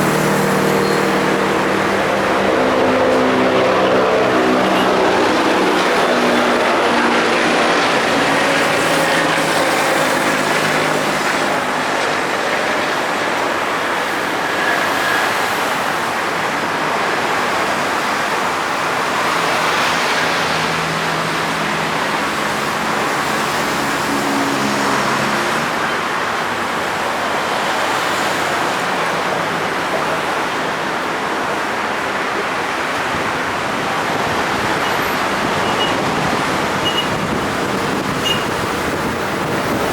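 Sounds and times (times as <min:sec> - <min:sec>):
heavy diesel engines under load: 0:00.0 - 0:39.9
steady rushing noise: 0:00.0 - 0:39.9.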